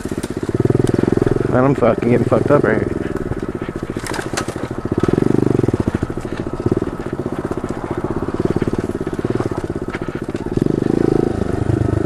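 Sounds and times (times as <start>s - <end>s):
motorbike engine puttering: 0.0s - 12.0s.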